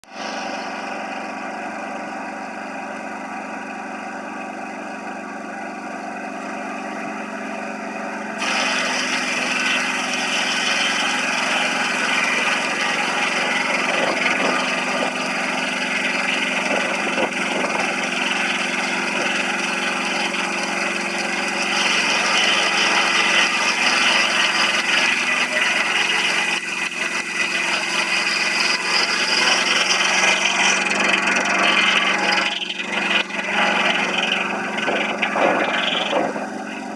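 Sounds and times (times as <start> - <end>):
saw cutting wood: 0.0 - 4.8, 5.4 - 36.9
sawmill engine running: 0.0 - 36.9.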